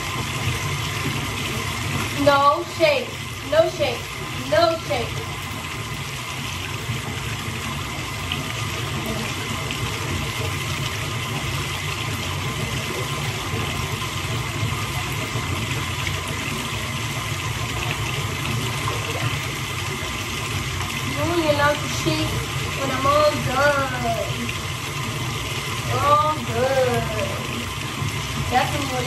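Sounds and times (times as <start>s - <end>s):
water running into a bathtub: 0.0s - 29.0s.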